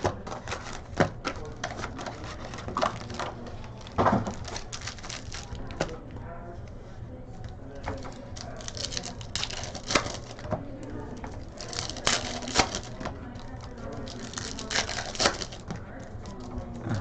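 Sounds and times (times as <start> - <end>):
cards clicking and crinkling: 0.0 - 6.0, 7.8 - 16.6
steady low hum: 0.0 - 17.0.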